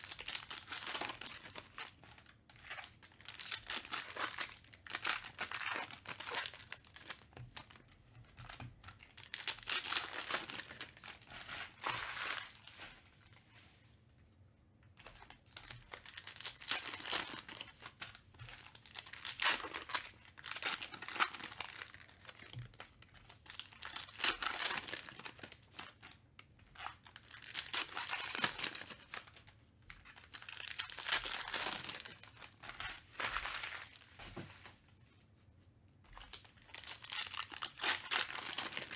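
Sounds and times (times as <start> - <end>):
foil wrappers tearing and crinkling: 0.0 - 7.2, 9.0 - 12.8, 15.2 - 26.0, 26.8 - 29.4, 30.0 - 34.1, 36.2 - 38.9.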